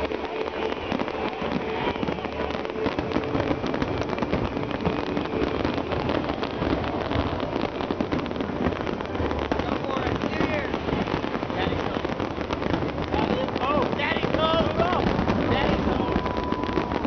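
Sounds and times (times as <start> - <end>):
big crowd noise: 0.0 - 17.0
fireworks crackling and banging: 0.0 - 17.0.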